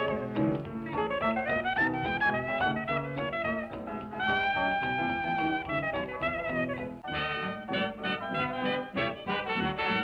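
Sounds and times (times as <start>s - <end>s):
brass band music: 0.0s - 10.0s.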